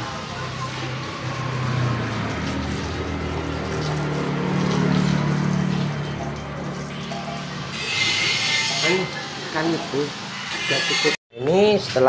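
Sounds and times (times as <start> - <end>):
water spraying: 0.0 - 11.0.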